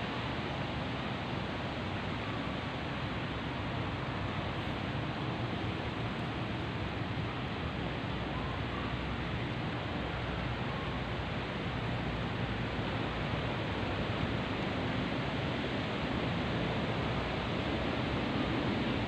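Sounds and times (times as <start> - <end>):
wind through trees: 0.0 - 19.0.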